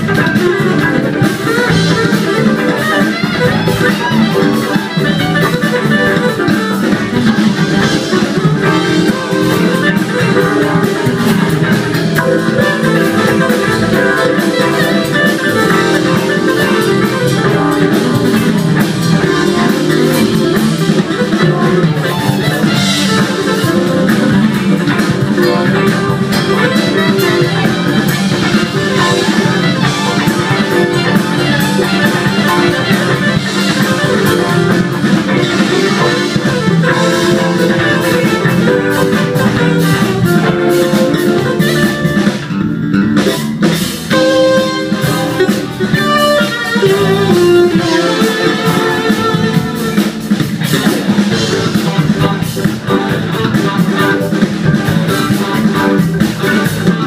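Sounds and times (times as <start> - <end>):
bass guitar: 0.0 - 57.0
drum kit: 0.0 - 57.0
electric guitars: 0.0 - 57.0
keyboards: 0.0 - 57.0.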